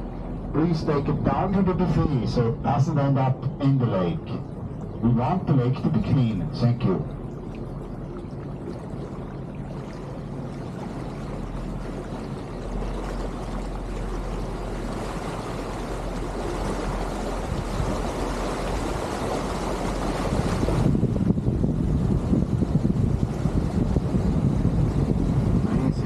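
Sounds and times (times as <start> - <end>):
churning water: 0.0 - 26.0
ship engine hum: 0.0 - 26.0.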